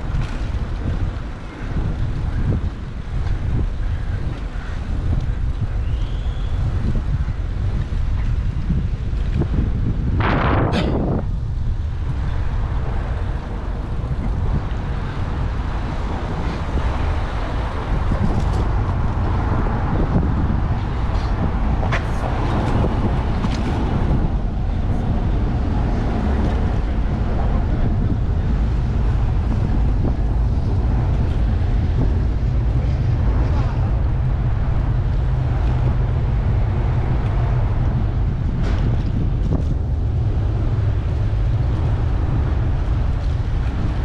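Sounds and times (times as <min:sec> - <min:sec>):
road and traffic noise: 0:00.0 - 0:44.0
wind noise on microphone: 0:00.0 - 0:44.0.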